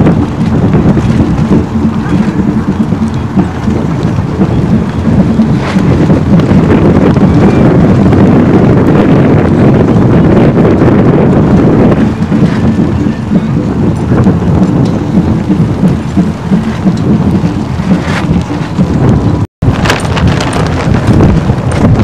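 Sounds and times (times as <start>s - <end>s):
rainfall: 0.0s - 22.0s
wind buffeting microphone: 0.0s - 22.0s.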